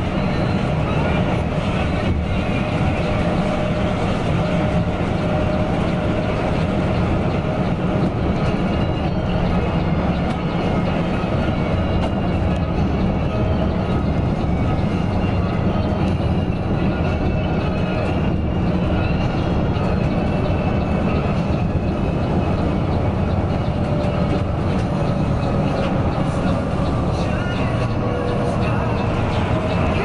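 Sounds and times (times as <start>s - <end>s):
bus engine drone: 0.0s - 30.0s
road and rolling noise: 0.0s - 30.0s.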